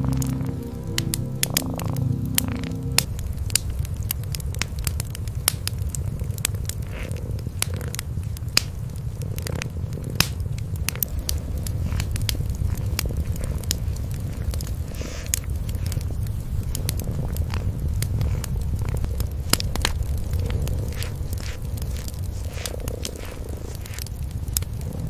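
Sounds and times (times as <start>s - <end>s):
cats purring: 0.0s - 25.0s
wood fire crackling and popping: 0.0s - 25.0s.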